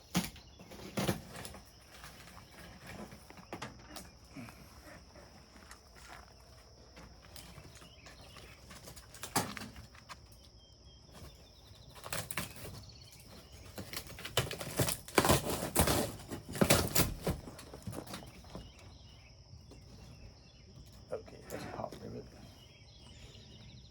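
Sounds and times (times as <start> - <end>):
crickets chirring: 0.0 - 23.9.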